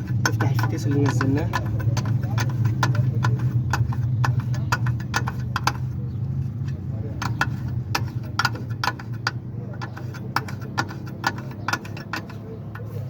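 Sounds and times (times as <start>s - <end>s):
low engine hum: 0.0s - 13.0s
metal tools clinking: 0.0s - 13.0s.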